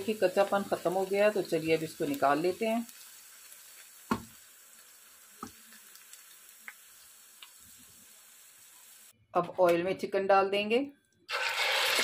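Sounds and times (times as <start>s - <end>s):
faint oil sizzle: 0.0s - 9.1s, 11.3s - 12.0s.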